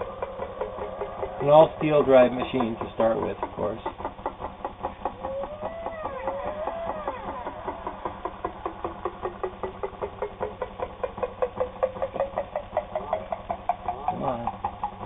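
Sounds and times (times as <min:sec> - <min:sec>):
sewing machine clattering: 0:00.0 - 0:15.0.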